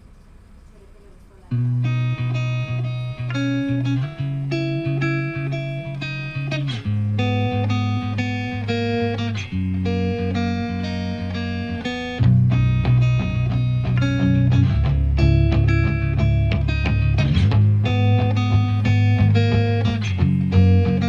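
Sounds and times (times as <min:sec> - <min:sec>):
plucked guitar notes: 0:01.5 - 0:21.0
sustained bass: 0:01.5 - 0:21.0.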